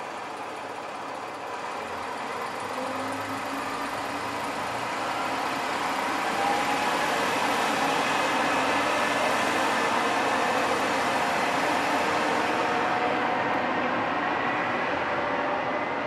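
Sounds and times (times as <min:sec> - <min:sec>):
railcar engine drone: 0:00.0 - 0:16.0.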